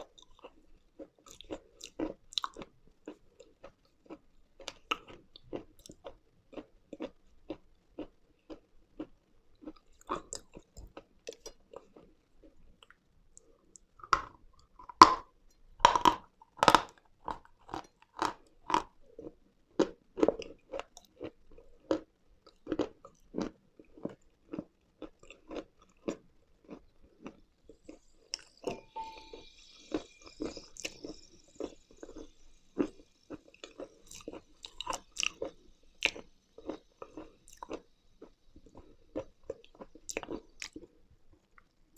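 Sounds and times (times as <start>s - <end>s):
chewing crunchy food: 0.0s - 41.8s.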